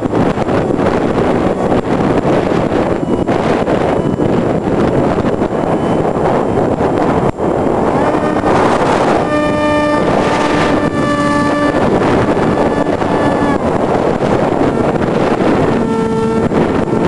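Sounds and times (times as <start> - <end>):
electric motor and propeller whine: 0.0 - 17.0
wind rushing over microphone: 0.0 - 17.0.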